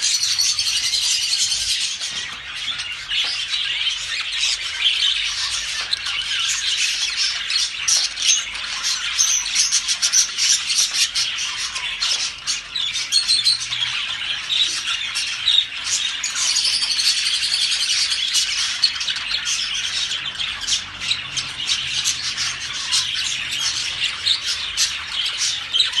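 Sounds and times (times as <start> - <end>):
flock of birds squawking: 0.0 - 26.0.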